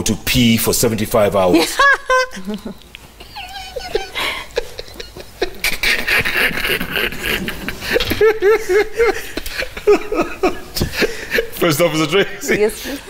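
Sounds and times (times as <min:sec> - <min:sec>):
people laughing hard: 0:01.6 - 0:13.0.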